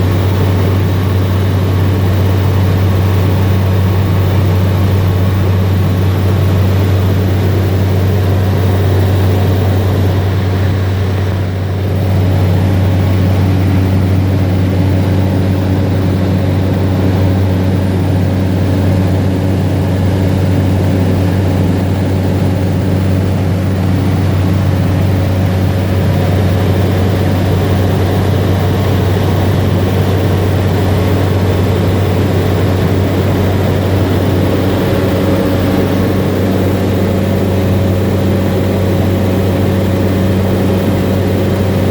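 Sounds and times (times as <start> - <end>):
turboprop engine droning in cabin: 0.0 - 41.9.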